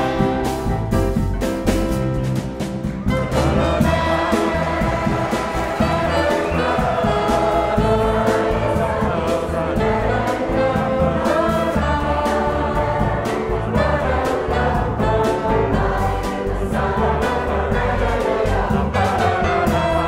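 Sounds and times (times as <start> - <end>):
choir singing: 0.0 - 0.9, 3.1 - 20.0
drums and cymbals: 0.0 - 20.0
piano: 0.0 - 20.0
trombone: 0.0 - 20.0
upright bass: 0.0 - 20.0.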